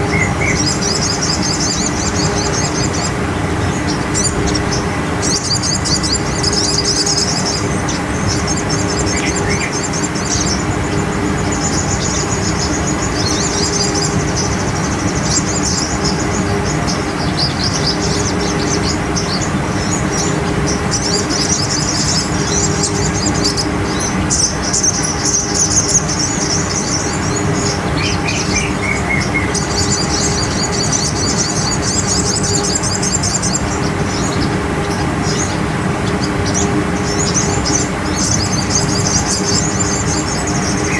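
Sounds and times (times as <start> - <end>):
bird trilling song: 0.0 - 40.9
steady low hum: 0.0 - 40.9.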